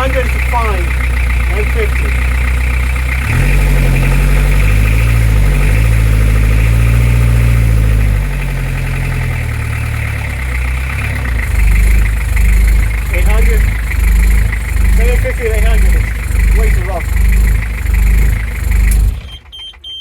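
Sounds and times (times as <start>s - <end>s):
small engine surging idle: 0.0s - 20.0s.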